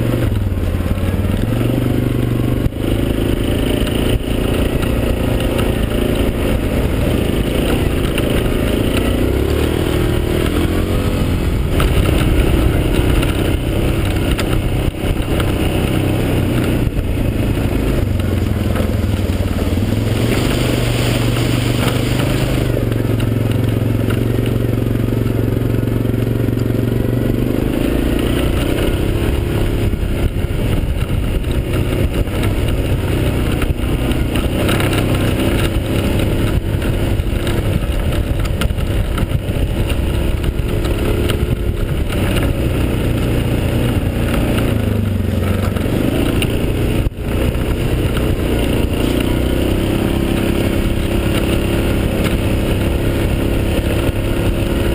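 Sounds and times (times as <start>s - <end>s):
quad bike engine revving: 0.0s - 54.9s.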